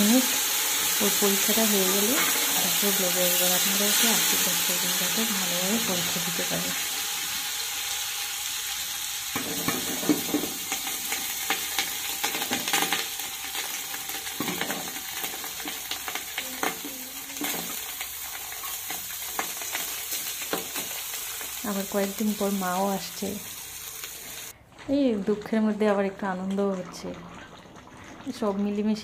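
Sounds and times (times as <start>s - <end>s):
food sizzling in a pan: 0.0s - 24.6s.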